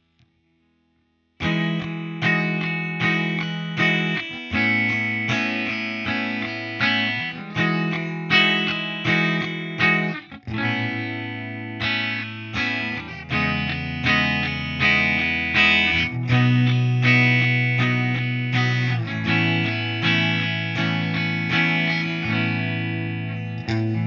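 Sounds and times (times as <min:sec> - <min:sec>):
clean electric guitar notes and chords: 0:01.4 - 0:24.0.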